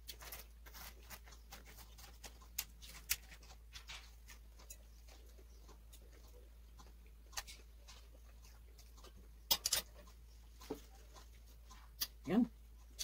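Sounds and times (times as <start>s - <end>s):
person eating by hand: 0.0s - 13.0s.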